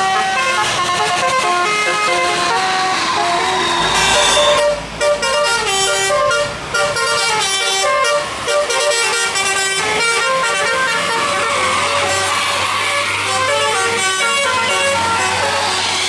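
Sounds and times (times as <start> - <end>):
musical air horn melody: 0.0 - 16.0.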